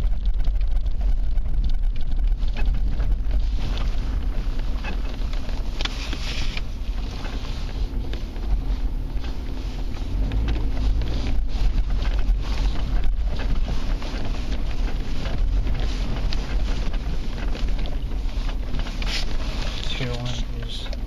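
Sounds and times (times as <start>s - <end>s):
wind noise on microphone: 0.0s - 19.8s
vehicle rumbling over snow: 0.0s - 21.0s.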